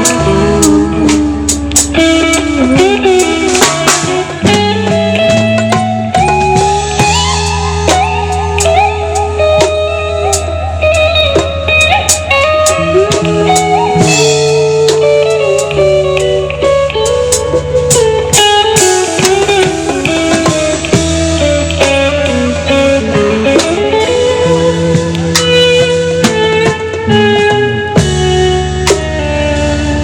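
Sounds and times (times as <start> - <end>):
bass: 0.0 - 30.0
drums: 0.0 - 30.0
guitar melody with bent notes: 0.0 - 30.0.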